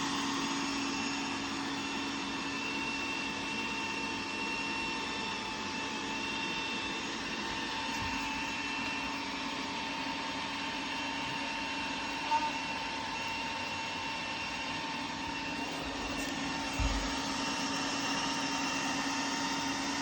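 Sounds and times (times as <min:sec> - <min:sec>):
robot vacuum whirring: 0:00.0 - 0:20.0.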